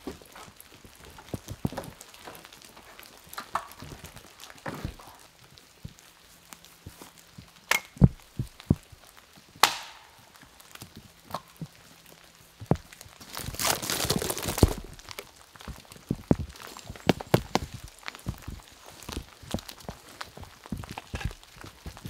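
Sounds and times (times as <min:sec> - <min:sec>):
footsteps on forest floor: 0:00.0 - 0:22.0
twigs cracking: 0:00.0 - 0:22.0.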